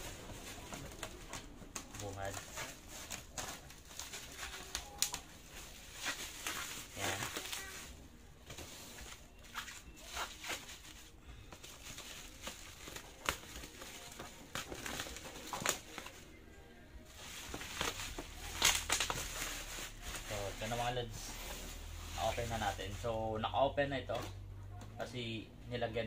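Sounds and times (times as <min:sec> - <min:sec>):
plastic crinkling and rustling: 0:00.0 - 0:16.4, 0:17.1 - 0:23.4.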